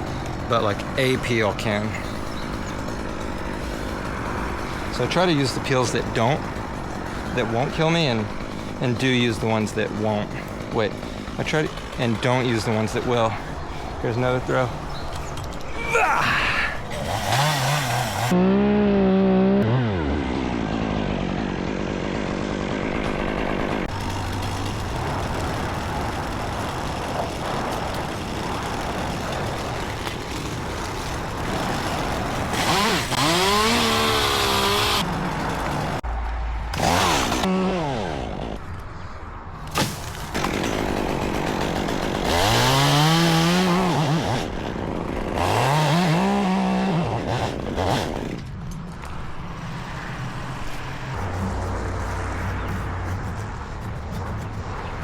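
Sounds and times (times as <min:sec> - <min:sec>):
chainsaw revving: 0:00.0 - 0:36.0, 0:36.7 - 0:38.7, 0:39.6 - 0:48.5, 0:50.5 - 0:55.0.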